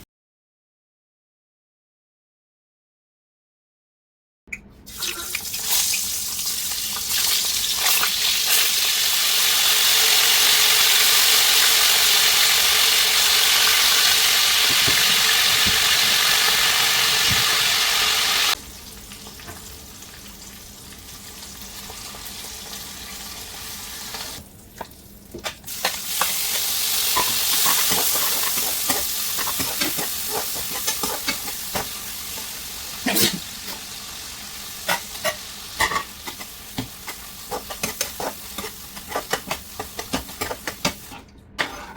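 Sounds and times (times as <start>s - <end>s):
hot oil sizzling in pan: 4.9s - 41.1s.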